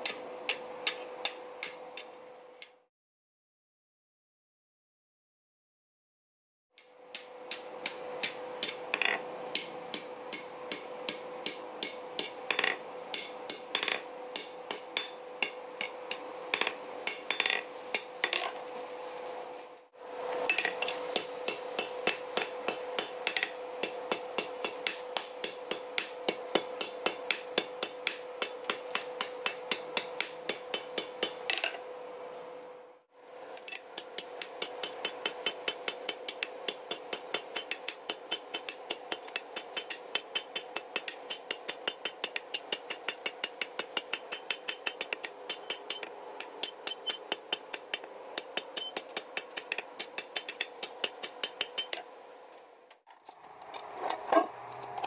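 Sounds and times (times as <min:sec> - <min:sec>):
hammer striking steel on anvil: 0:00.0 - 0:02.8, 0:06.8 - 0:18.5, 0:20.5 - 0:31.8, 0:33.6 - 0:52.0.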